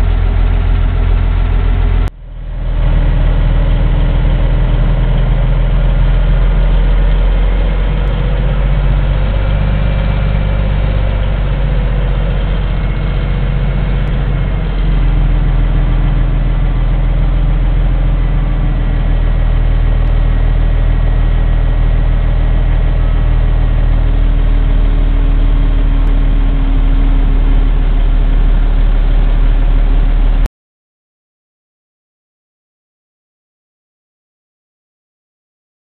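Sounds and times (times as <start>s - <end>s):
diesel truck engine running: 0.0s - 30.5s.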